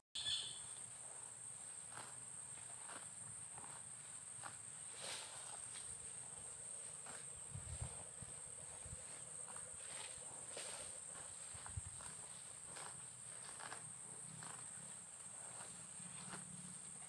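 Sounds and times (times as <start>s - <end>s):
insects chirring: 0.2s - 17.0s.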